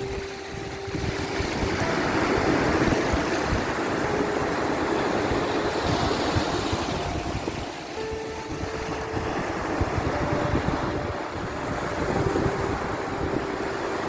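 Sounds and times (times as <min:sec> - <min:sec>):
sea waves washing in: 0:00.0 - 0:14.0
soft background music: 0:00.0 - 0:14.0.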